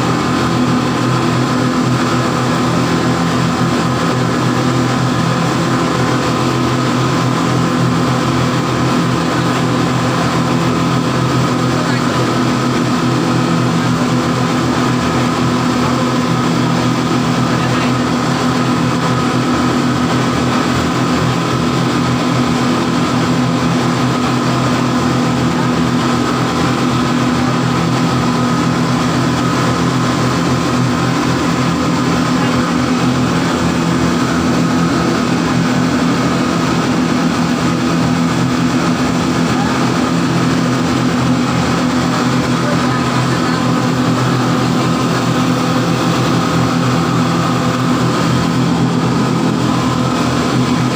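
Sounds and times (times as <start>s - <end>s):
ship engine drone: 0.0s - 50.9s.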